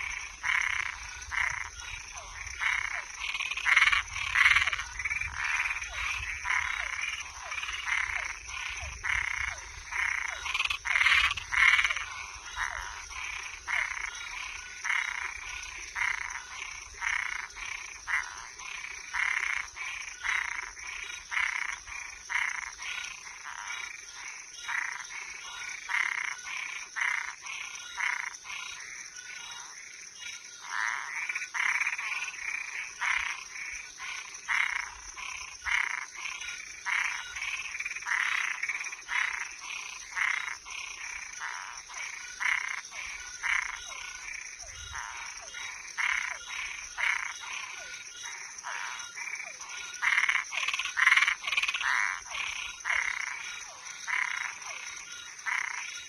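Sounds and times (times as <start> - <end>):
frogs calling: 0.0 - 56.0.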